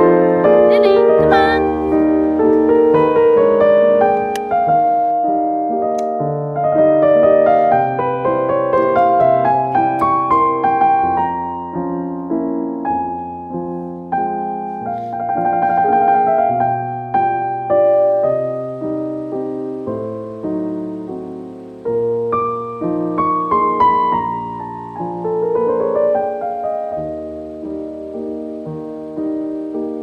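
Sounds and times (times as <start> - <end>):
gentle piano piece: 0.0 - 30.0.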